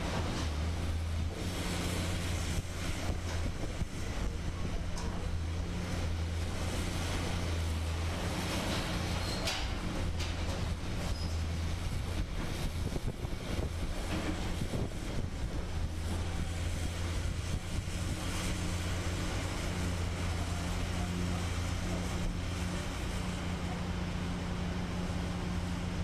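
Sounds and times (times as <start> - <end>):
diesel machinery engine humming: 0.0 - 26.0.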